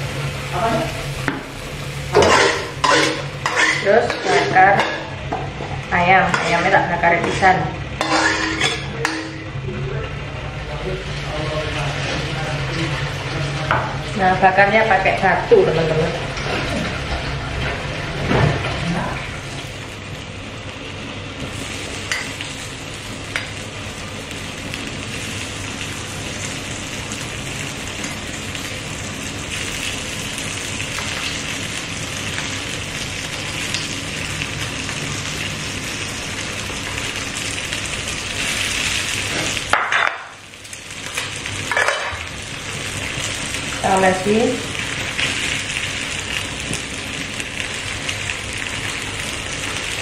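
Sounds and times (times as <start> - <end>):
chicken sizzling on grill: 0.0 - 50.0.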